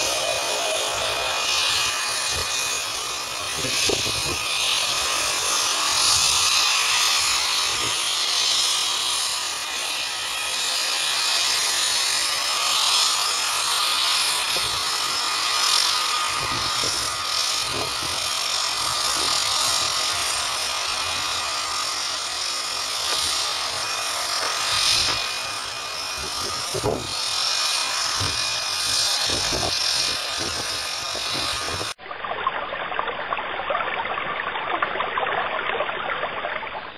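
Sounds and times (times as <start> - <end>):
water spray hissing: 0.0 - 32.0
plane engine and propeller drone: 0.0 - 36.9.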